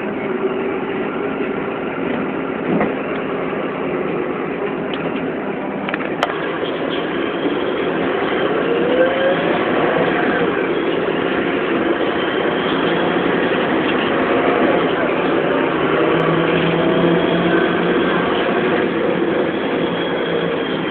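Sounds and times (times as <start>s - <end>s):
bus engine and road noise: 0.0s - 20.9s.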